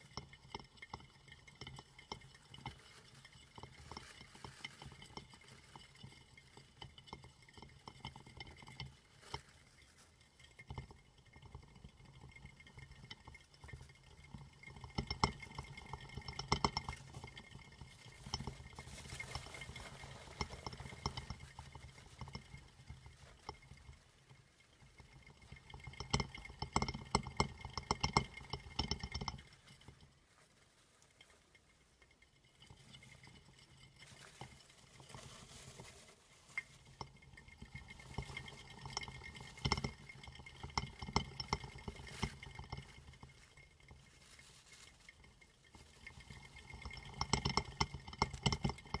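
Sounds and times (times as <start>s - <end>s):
hamster wheel rattling and clicking: 0.0s - 49.0s.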